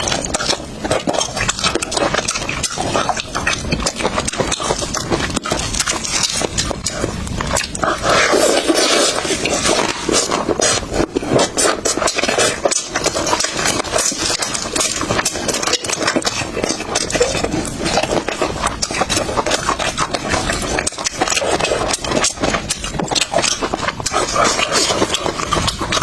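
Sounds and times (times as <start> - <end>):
wet chewing: 0.0 - 26.0.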